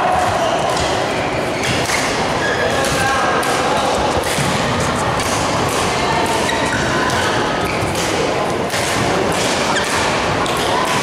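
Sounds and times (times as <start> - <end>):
rackets hitting shuttlecock: 0.1 - 11.0.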